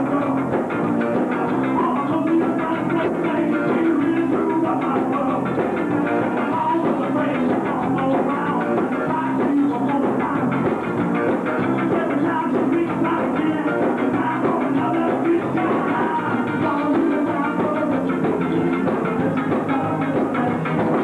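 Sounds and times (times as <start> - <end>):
electric guitar: 0.0 - 21.0
ska band playing live: 0.0 - 21.0.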